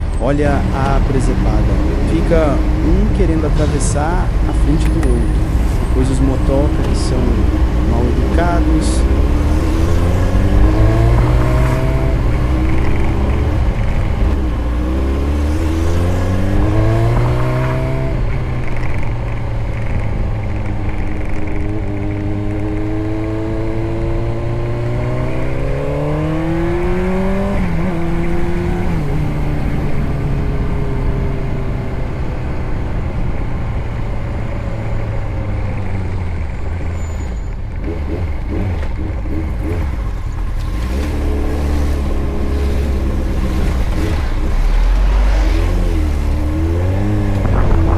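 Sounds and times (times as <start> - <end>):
motorcycle engine accelerating: 0.0 - 47.9
wind and road noise: 0.0 - 47.9.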